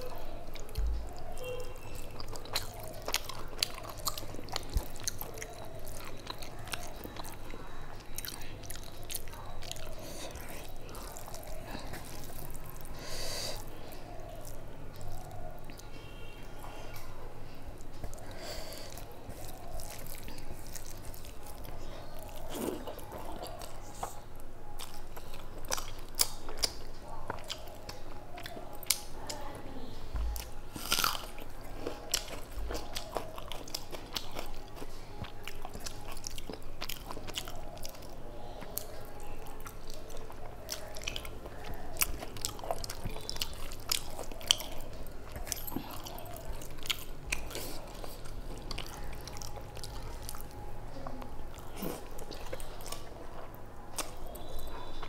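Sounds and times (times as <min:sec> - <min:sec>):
chewing and biting food: 0:00.0 - 0:29.4, 0:30.2 - 0:55.0.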